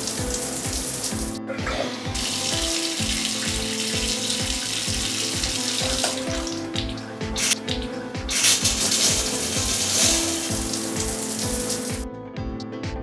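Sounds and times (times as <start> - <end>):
water splashing from hose: 0.0 - 12.0
background music with beat: 0.0 - 13.0.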